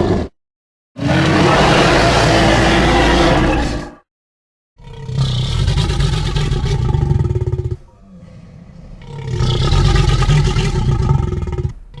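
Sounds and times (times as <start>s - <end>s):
rough low dinosaur roar: 1.0s - 4.0s, 4.8s - 12.0s.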